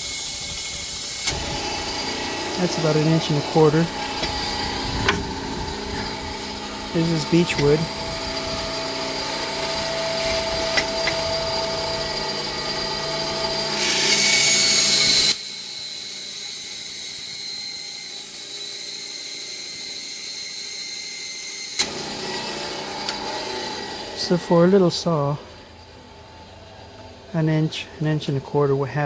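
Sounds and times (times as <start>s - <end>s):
band saw motor running: 0.0s - 27.2s.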